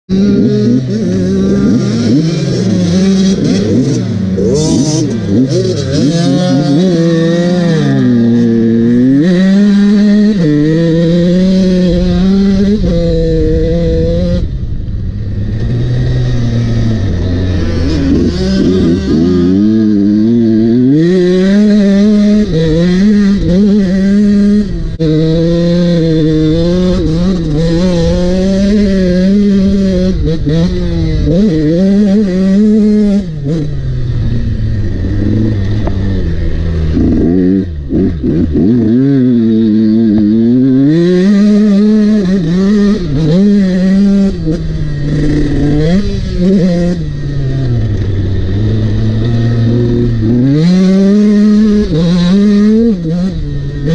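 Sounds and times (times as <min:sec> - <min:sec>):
motocross bike engine revving: 0:00.1 - 0:53.9.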